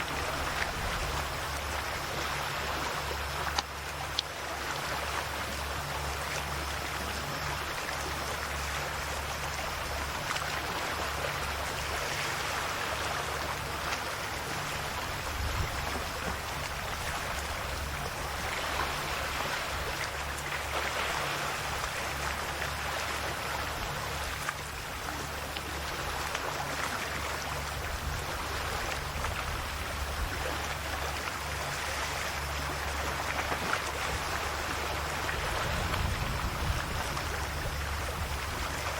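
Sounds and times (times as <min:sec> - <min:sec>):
sea waves lapping on shore: 0:00.0 - 0:38.9.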